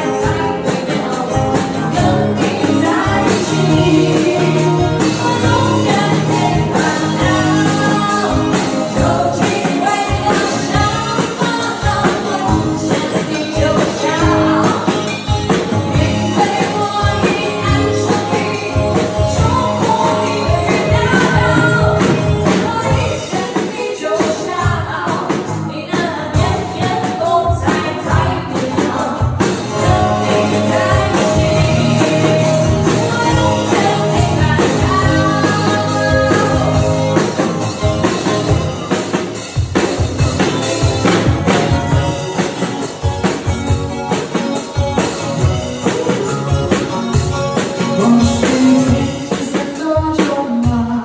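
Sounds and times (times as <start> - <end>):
band playing pop music: 0.0 - 51.0
drum kit steady beat: 0.0 - 51.0.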